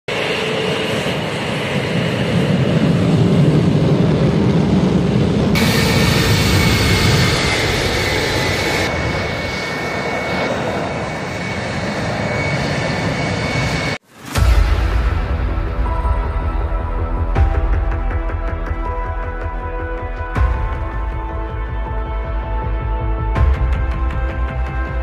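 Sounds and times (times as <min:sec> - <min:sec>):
jet engine and airflow rush: 0:00.1 - 0:25.0.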